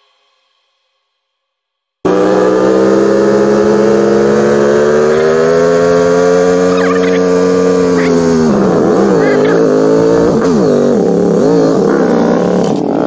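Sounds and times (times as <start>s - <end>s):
motorcycle engine running: 2.0s - 13.0s.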